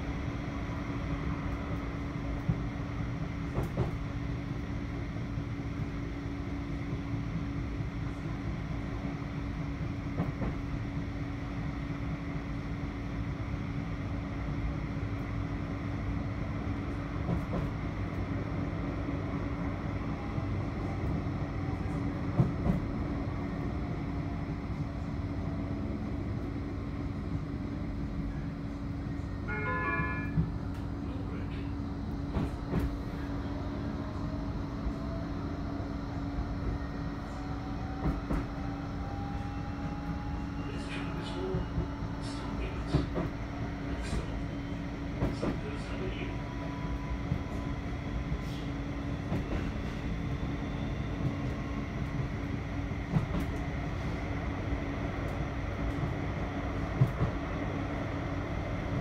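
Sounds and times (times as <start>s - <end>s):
constant low hum: 0.0s - 59.0s
tram wheels rumbling: 0.0s - 59.0s.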